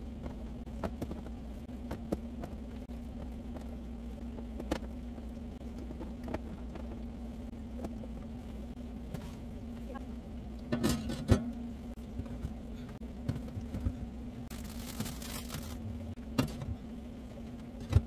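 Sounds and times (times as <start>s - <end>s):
refrigerator hum: 0.0s - 18.0s.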